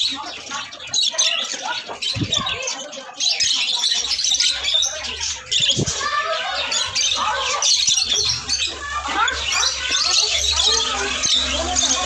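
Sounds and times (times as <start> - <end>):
lovebirds squawking and chirping: 0.0 - 12.0.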